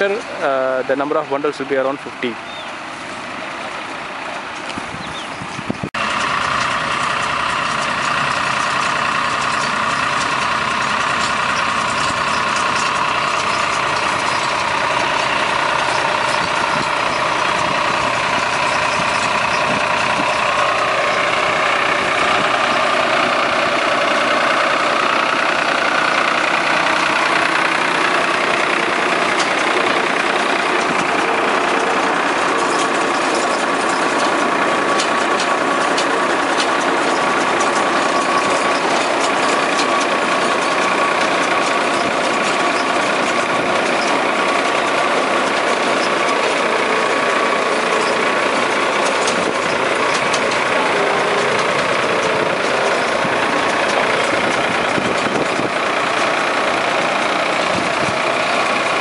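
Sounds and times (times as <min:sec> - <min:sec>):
straw baler machinery running: 0:00.0 - 0:59.0.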